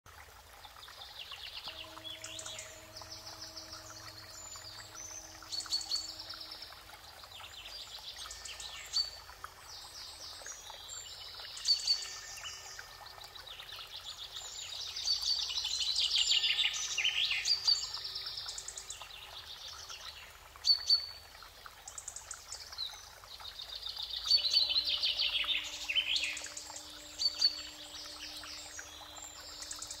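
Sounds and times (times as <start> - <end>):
birds singing and calling: 1.0 - 21.2, 21.9 - 30.0.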